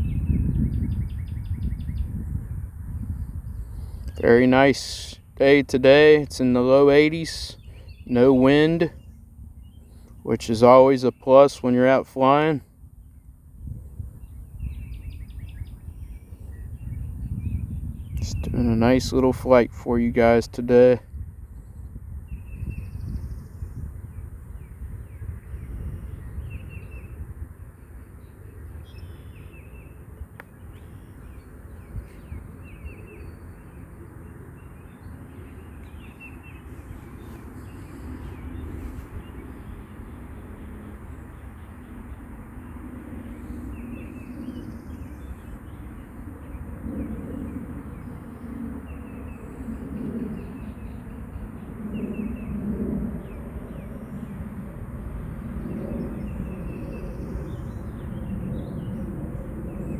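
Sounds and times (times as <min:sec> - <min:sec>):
birds chirping: 0:00.0 - 0:13.3, 0:14.2 - 0:21.0, 0:21.8 - 0:54.4.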